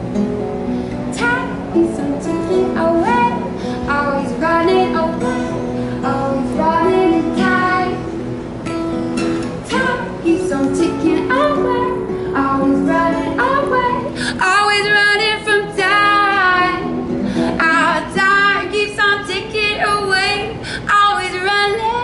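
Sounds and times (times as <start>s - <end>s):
strummed acoustic guitar: 0.0s - 20.4s
woman singing long held notes: 1.2s - 8.1s, 9.7s - 22.0s.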